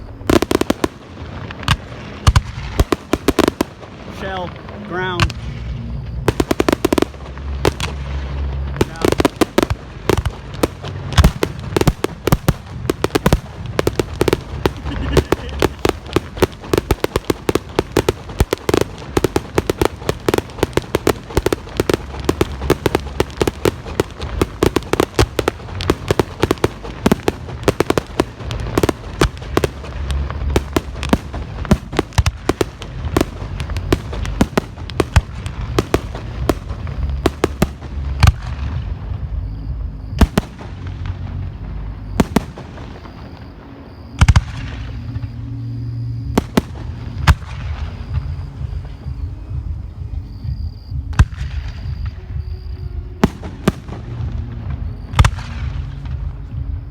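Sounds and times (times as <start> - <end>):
fireworks bangs and crackling: 0.0 - 56.9
low rumble: 0.0 - 56.9.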